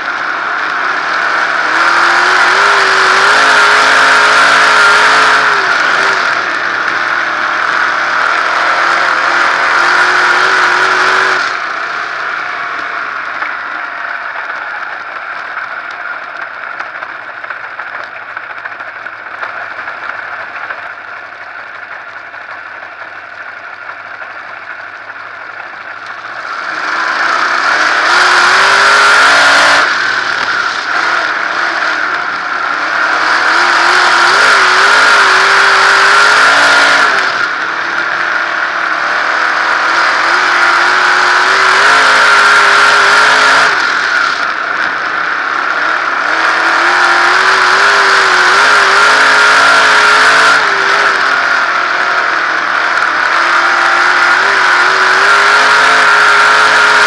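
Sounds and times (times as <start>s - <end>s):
race car engine surging: 0.0s - 57.0s.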